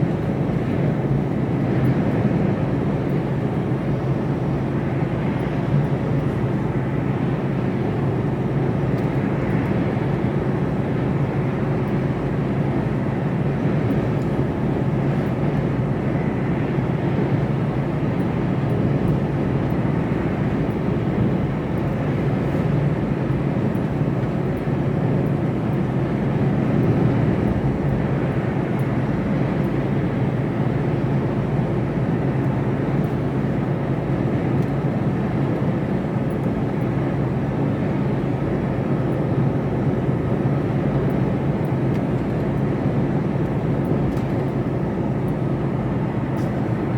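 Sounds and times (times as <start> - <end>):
lorry cab engine and road drone: 0.0 - 46.9.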